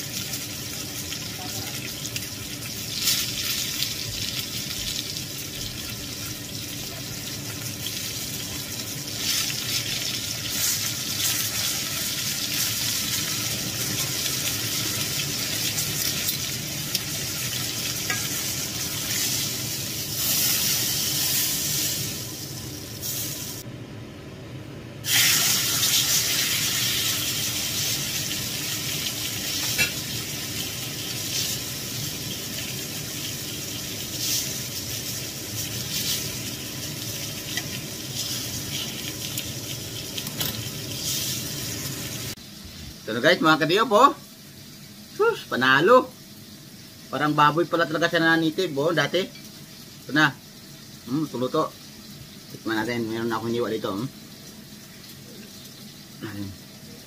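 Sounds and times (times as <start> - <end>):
meat sizzling in a skillet: 0.0 - 23.7, 25.0 - 57.0.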